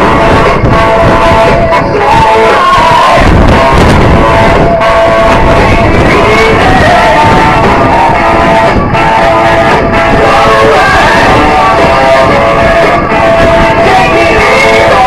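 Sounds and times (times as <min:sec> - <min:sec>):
loud music: 0:00.0 - 0:15.0.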